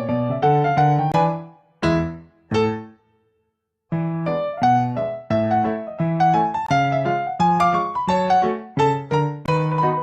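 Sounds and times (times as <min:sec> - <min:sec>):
piano music: 0:00.0 - 0:03.0, 0:03.9 - 0:10.0.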